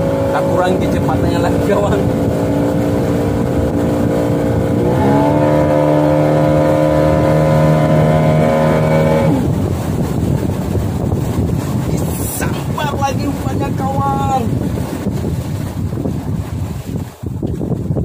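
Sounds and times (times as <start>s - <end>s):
outboard motor running: 0.0s - 18.0s
water noise: 0.0s - 18.0s
wind: 0.0s - 18.0s.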